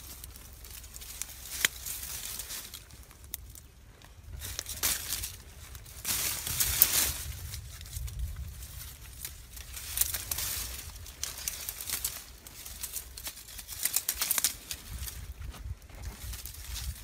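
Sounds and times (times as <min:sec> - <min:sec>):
low rumble: 0:00.0 - 0:13.8
dry leaves rustling and crackling: 0:00.0 - 0:17.0.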